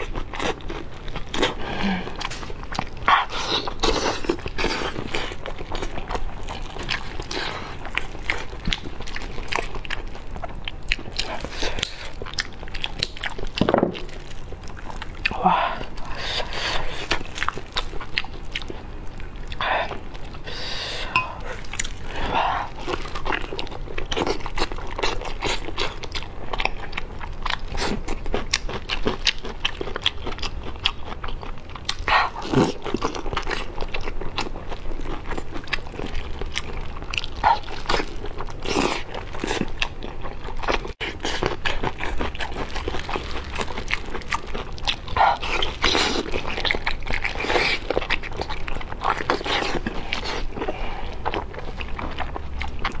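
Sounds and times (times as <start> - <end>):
biting and chewing: 0.0 - 53.0.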